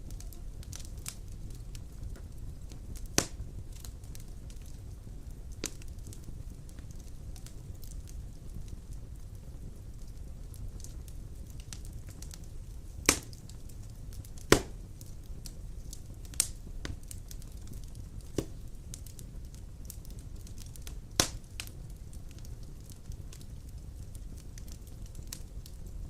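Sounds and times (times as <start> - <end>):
low rumble of flame: 0.0 - 26.0
sharp pops from burning wood: 0.0 - 26.0
small fire crackles: 0.0 - 26.0.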